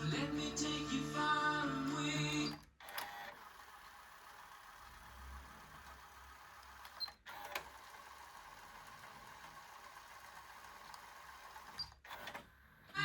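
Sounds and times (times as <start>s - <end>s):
cassette tape mechanism running: 1.7s - 12.4s.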